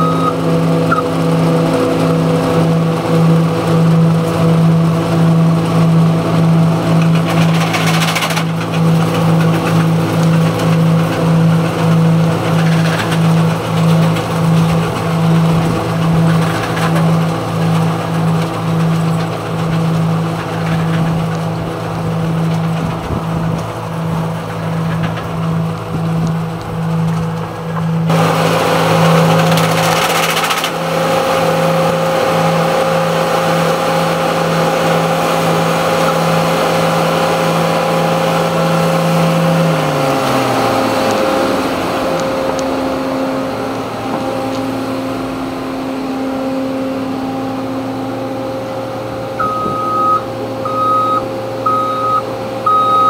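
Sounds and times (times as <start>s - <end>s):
grape harvester running: 0.0s - 53.0s
pulsing low hum: 0.0s - 53.0s.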